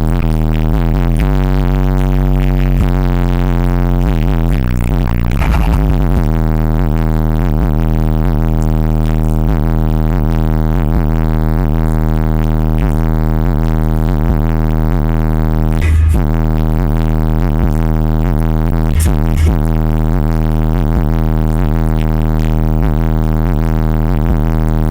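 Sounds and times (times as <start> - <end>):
loud deep bass from subwoofers: 0.0 - 24.9.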